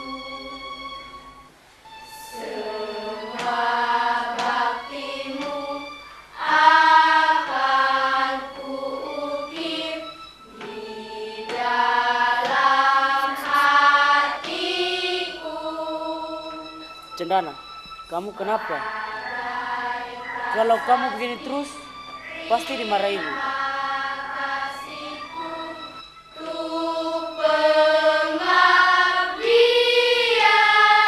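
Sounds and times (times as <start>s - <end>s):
choir singing: 0.0s - 1.3s, 2.0s - 17.0s, 18.3s - 31.0s.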